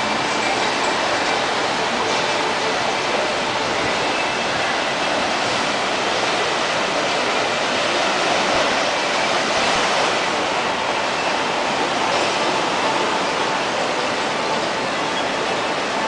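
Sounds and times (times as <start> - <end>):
rushing white water: 0.0 - 16.0.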